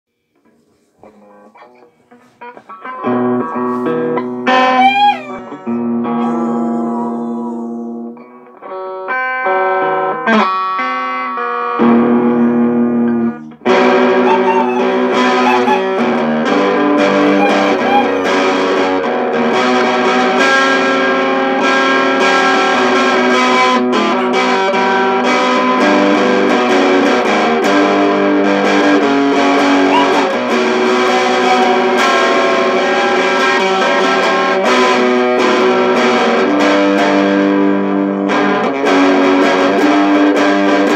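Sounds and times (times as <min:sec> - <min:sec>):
distorted electric guitar: 0:01.0 - 0:40.9.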